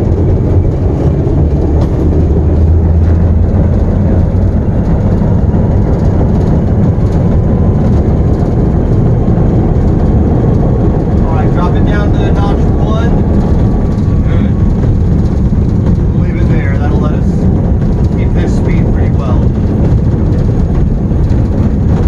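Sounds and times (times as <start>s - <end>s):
locomotive engine rumble: 0.0s - 22.0s.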